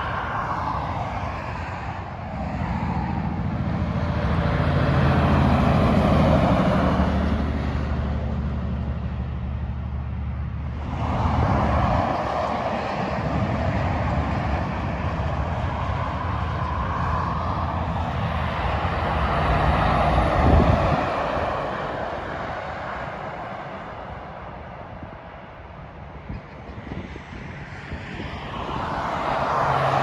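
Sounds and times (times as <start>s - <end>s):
truck engines droning: 0.0s - 30.0s.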